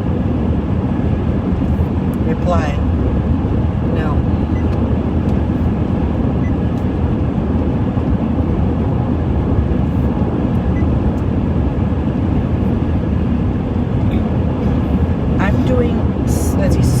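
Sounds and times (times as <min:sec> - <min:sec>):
car cabin road and engine noise: 0:00.0 - 0:17.0.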